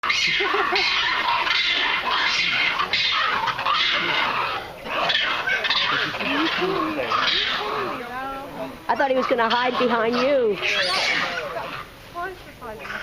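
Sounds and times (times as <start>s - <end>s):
macaques shrieking: 0.0s - 12.0s, 12.6s - 13.0s.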